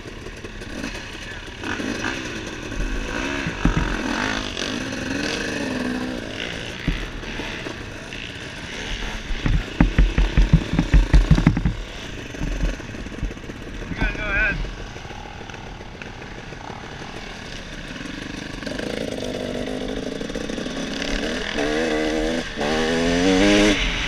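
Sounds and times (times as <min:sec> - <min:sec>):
dirt bike engines idling and revving: 0:00.0 - 0:24.0
dirt bike pulling away: 0:00.0 - 0:24.0.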